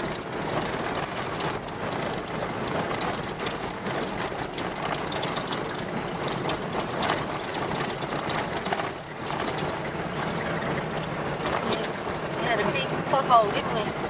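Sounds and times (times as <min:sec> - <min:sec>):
tyre and road noise: 0:00.0 - 0:14.0
vehicle rattling: 0:00.0 - 0:14.0.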